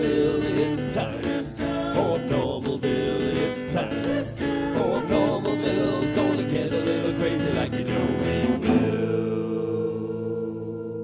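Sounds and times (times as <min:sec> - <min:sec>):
strummed acoustic guitar: 0:00.0 - 0:09.7
person singing: 0:00.0 - 0:11.0.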